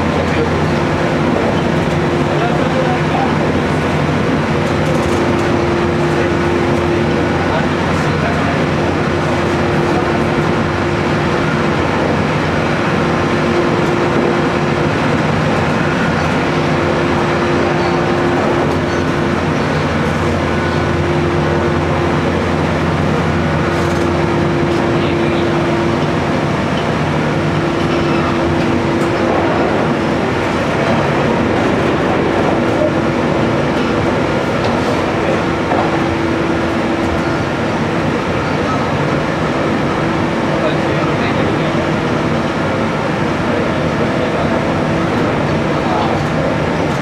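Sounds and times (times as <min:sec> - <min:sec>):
electric train motor hum: 0:00.0 - 0:47.0.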